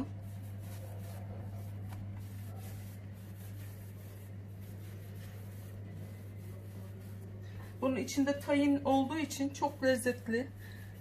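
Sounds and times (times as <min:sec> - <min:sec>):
hands rubbing and squishing dough: 0:00.0 - 0:11.0
steady low hum: 0:00.0 - 0:11.0.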